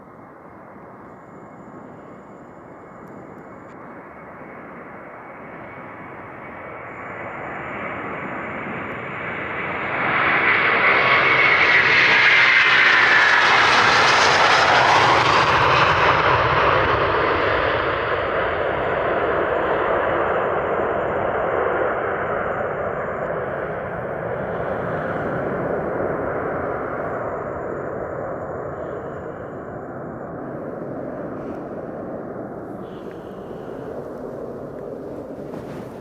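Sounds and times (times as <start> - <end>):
jet airliner taking off: 0.0 - 36.0
jet engine whine: 0.0 - 36.0.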